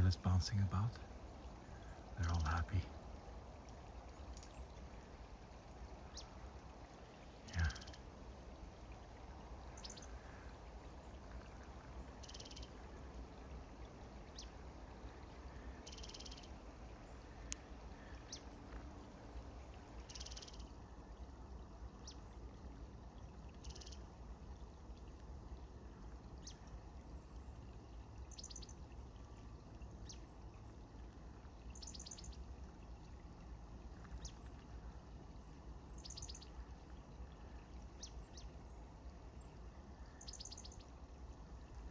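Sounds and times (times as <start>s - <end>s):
low background noise: 0.0s - 41.9s
songbirds chirping and trilling: 0.0s - 41.9s.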